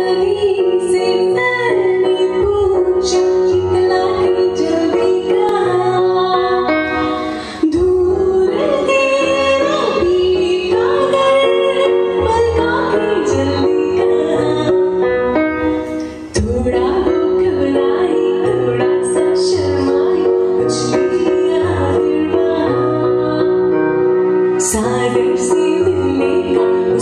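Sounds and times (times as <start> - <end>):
woman singing: 0.0 - 15.7, 16.3 - 27.0
electronic keyboard chords and bass: 0.0 - 27.0.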